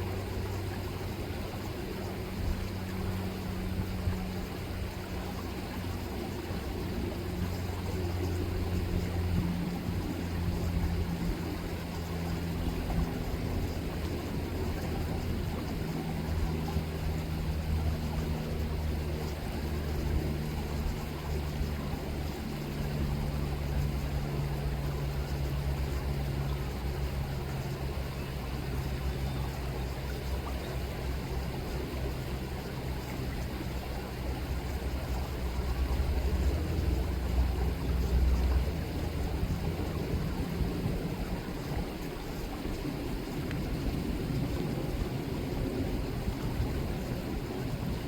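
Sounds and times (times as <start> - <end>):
distant engine drone: 0.0 - 48.0
river water rippling: 0.0 - 48.0.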